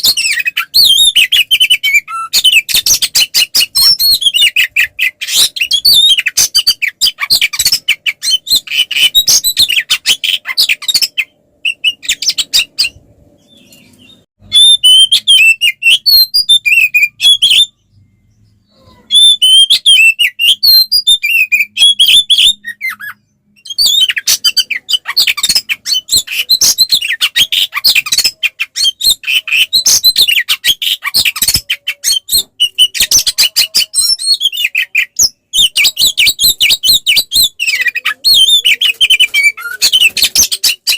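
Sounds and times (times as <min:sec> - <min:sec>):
bird singing fast chirps: 0:00.0 - 0:40.9.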